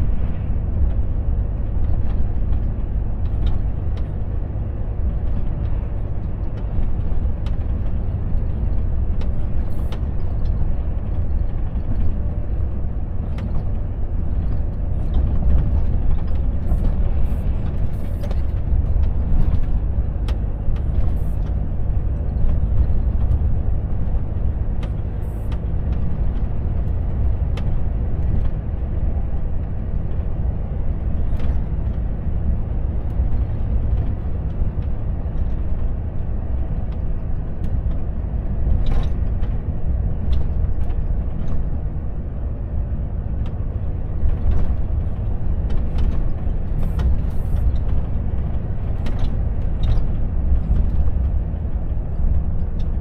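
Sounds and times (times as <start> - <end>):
truck engine and road rumble: 0.0 - 53.0.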